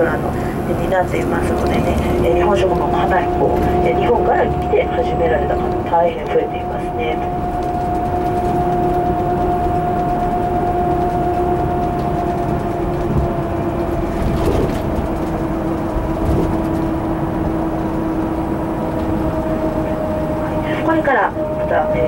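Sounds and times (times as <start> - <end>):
coach road and engine rumble: 0.0 - 22.0.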